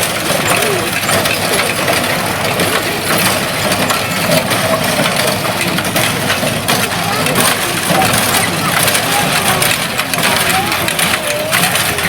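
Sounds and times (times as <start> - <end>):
farm machinery engine running: 0.0 - 12.0
rattle and clatter of moving parts: 0.0 - 12.0.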